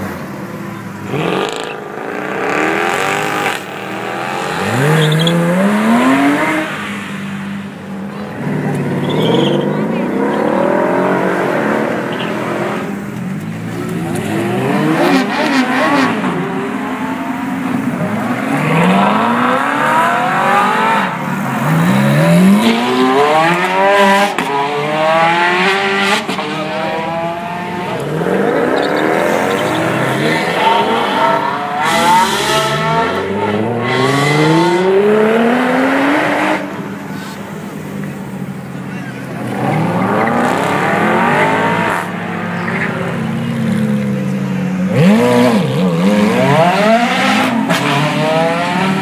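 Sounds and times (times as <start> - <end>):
sports car engines revving: 0.0 - 49.0.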